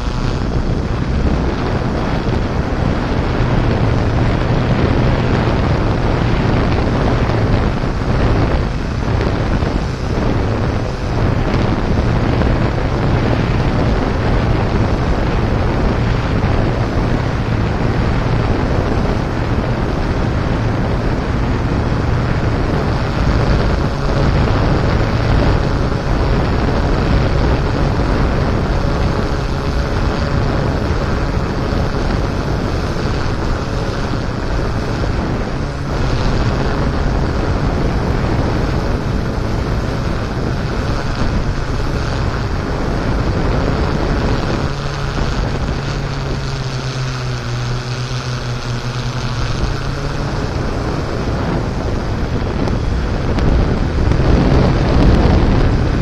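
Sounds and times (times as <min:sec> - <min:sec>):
low hum: 0:00.0 - 0:56.0
wind buffeting microphone: 0:00.0 - 0:56.0.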